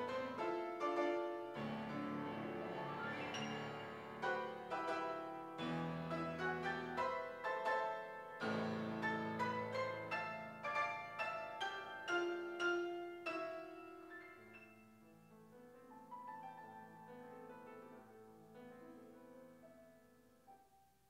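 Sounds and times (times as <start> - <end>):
slow gentle piano piece: 0.0 - 21.0.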